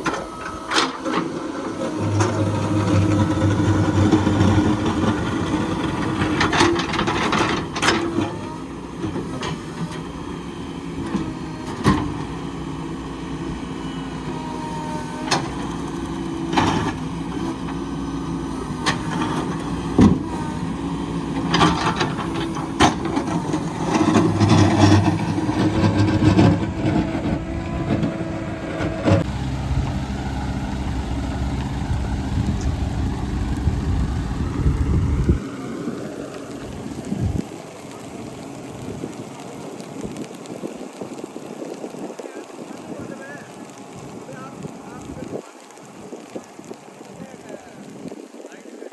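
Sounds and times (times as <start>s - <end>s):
construction machinery engines humming: 0.0s - 48.9s.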